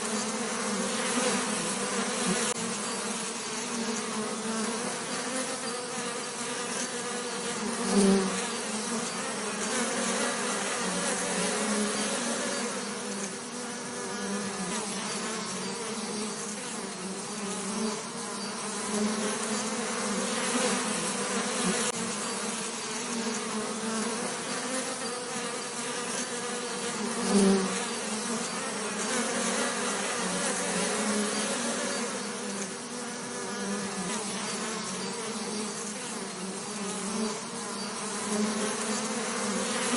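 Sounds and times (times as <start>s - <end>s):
bees buzzing: 0.0s - 39.9s.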